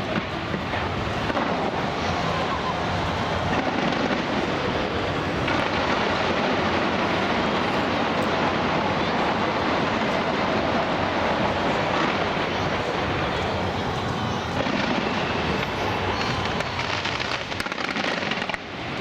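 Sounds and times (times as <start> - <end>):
fireworks rumbling and crackling: 0.0 - 19.0.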